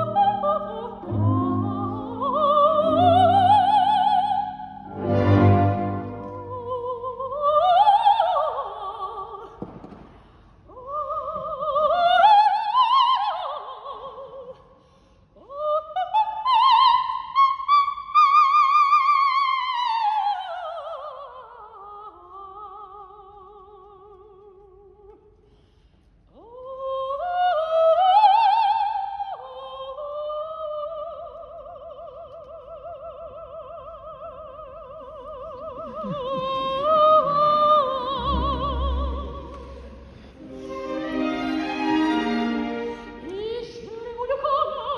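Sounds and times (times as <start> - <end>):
operatic soprano singing: 0.0 - 9.6, 10.6 - 14.7, 15.4 - 25.1, 26.3 - 44.9.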